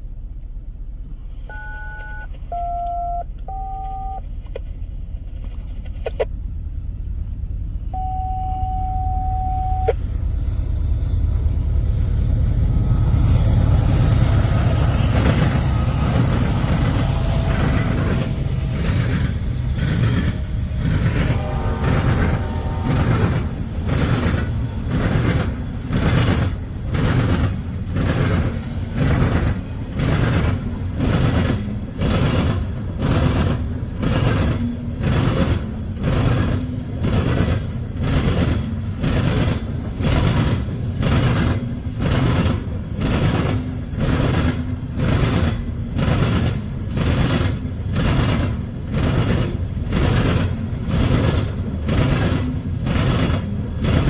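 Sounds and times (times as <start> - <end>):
train low rumble: 0.0 - 54.0
train wheels clacking: 9.9 - 54.0.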